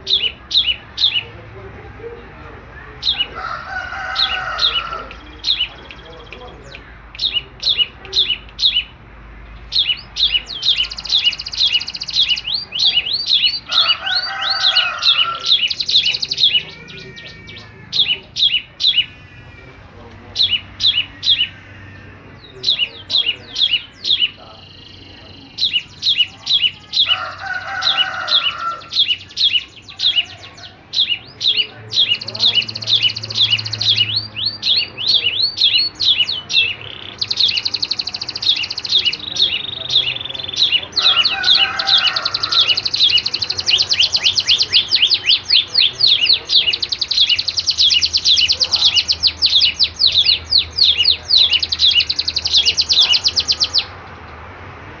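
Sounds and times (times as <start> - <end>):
songbirds chirping trills: 0.0 - 55.0.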